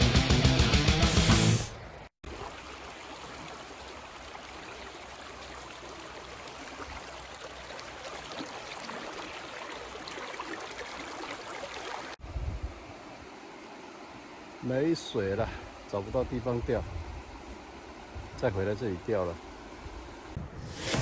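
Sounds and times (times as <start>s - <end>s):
creek flowing: 1.7s - 20.4s.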